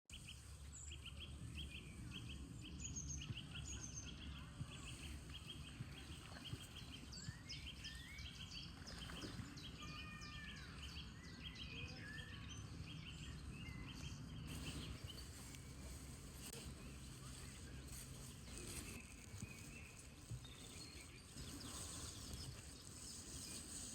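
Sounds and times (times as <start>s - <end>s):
small birds chirping and whistling: 0.1s - 23.9s.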